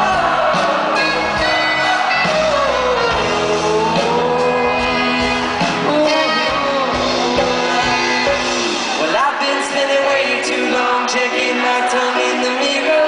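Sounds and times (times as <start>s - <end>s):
live band music: 0.0s - 13.0s
person singing: 0.0s - 13.0s.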